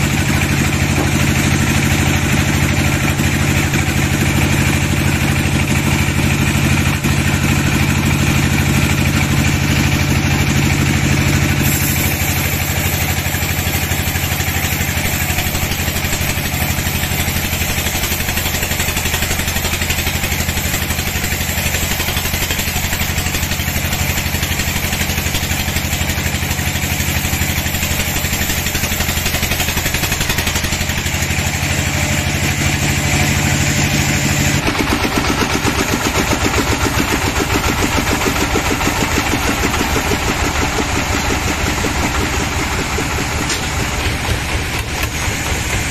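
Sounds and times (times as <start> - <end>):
band saw cutting wood: 0.0 - 45.9.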